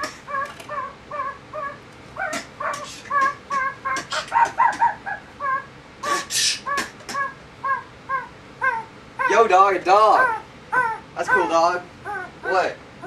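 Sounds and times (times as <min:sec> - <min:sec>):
dog-like yapping: 0:00.0 - 0:12.7.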